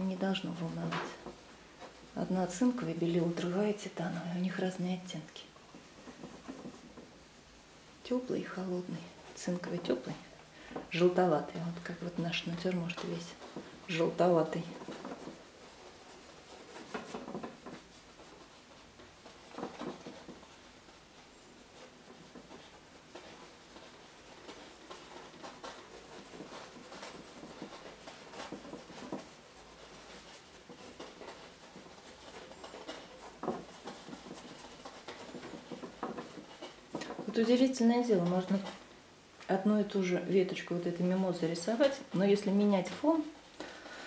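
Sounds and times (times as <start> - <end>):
paintbrush strokes on canvas: 0.0 - 44.0.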